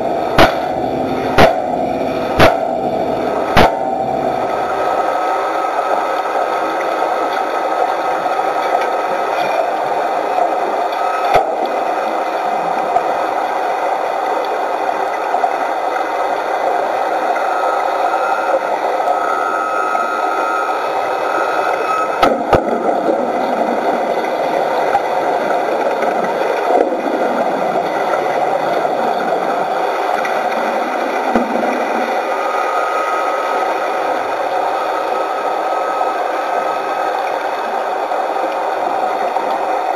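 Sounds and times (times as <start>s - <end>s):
underwater bubbles hissing: 0.0s - 39.9s.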